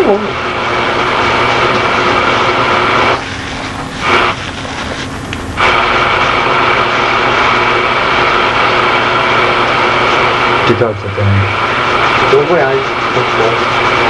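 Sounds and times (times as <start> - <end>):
machine drone with whine: 0.0 - 14.0.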